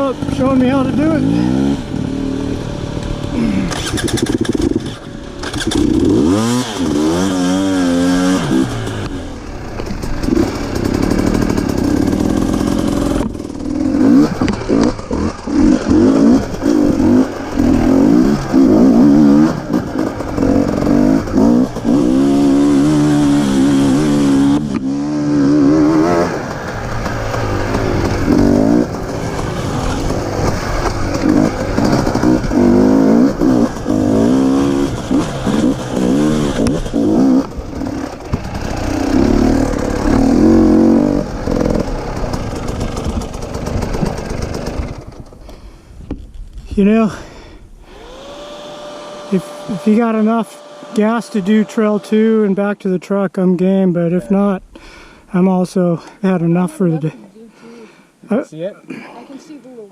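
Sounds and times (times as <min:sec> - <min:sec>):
dirt bike engines revving: 0:00.0 - 0:45.9, 0:46.5 - 0:59.9.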